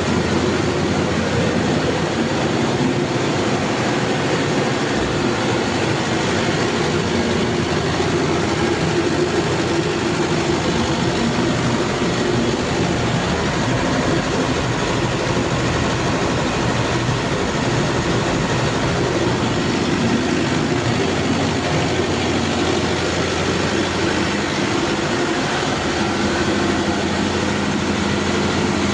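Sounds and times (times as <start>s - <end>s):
diesel engine running steadily: 0.0s - 28.9s.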